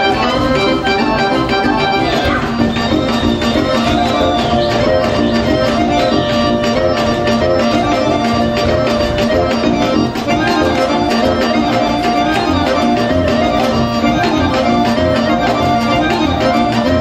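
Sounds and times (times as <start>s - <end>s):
folk orchestra with accordion: 0.0s - 17.0s.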